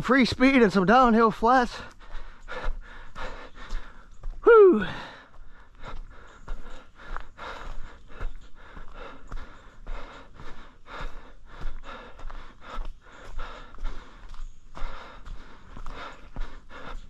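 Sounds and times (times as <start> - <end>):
runner breathing hard: 0.0 - 17.0.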